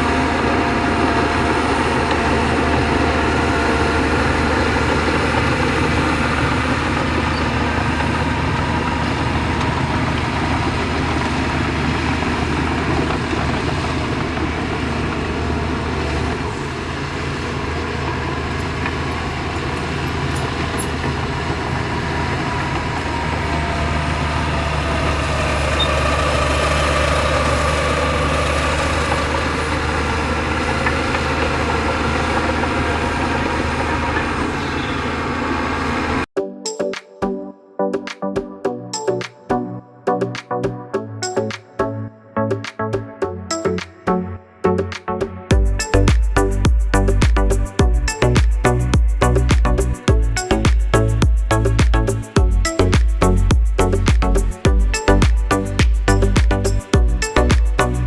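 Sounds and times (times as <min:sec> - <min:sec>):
heavy diesel engine running: 0:00.0 - 0:36.3, 0:45.5 - 0:58.0.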